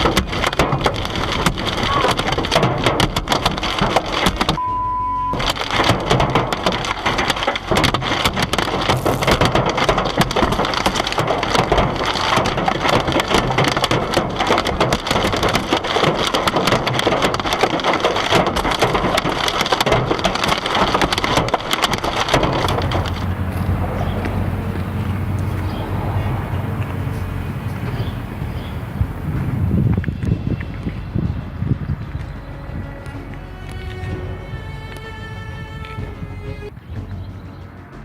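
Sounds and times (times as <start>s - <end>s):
hailstones pelting hard surfaces: 0.0s - 4.6s, 5.4s - 35.2s.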